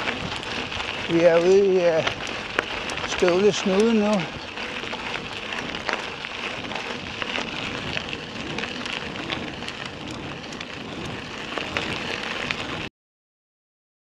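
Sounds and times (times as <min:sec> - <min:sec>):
bicycle tyres crunching on gravel: 0:00.0 - 0:12.9
stones and bike rattling: 0:00.0 - 0:12.9.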